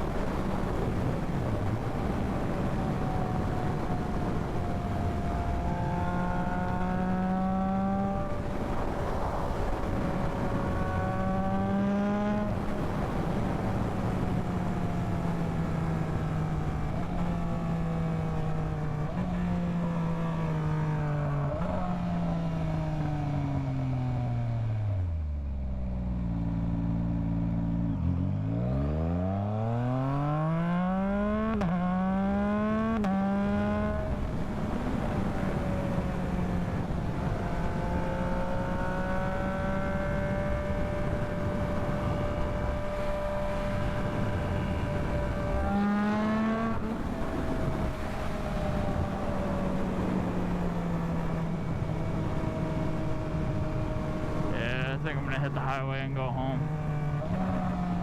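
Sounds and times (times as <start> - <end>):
wind and road noise: 0.0 - 58.0
motorcycle engine shifting gears: 0.1 - 54.6.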